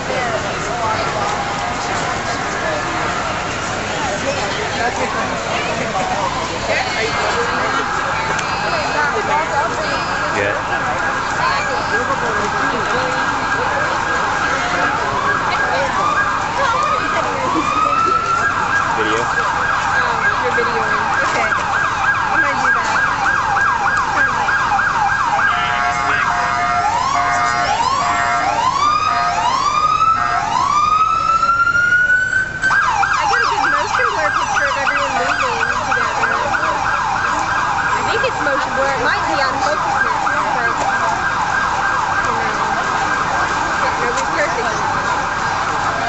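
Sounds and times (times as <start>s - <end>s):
emergency vehicle siren: 0.0s - 46.0s.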